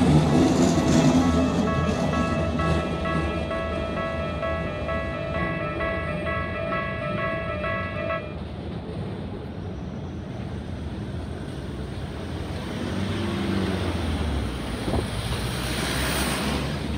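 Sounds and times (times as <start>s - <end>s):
road traffic rushing: 0.0s - 16.9s.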